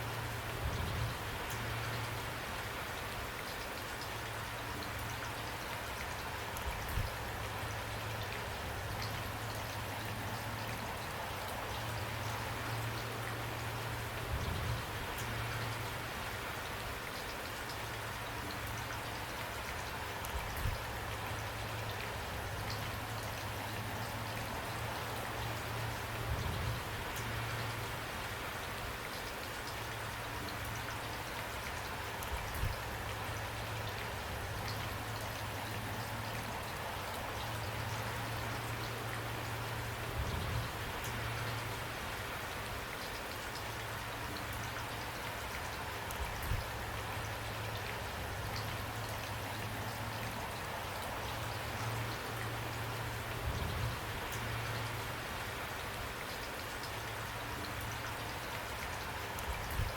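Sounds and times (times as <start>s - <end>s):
steady rain with ticking drops: 0.0s - 59.9s.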